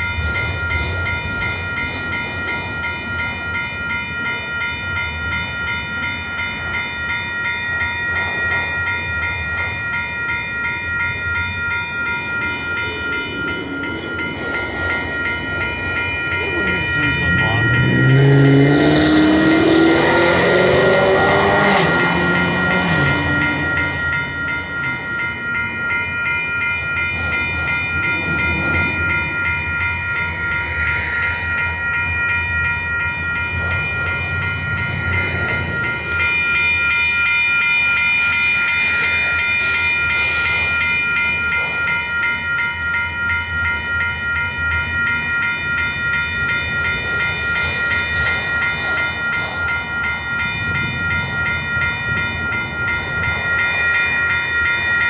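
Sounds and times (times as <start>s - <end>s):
crossing bell ringing: 0.0s - 55.0s
freight train rumbling and rattling: 0.0s - 55.0s.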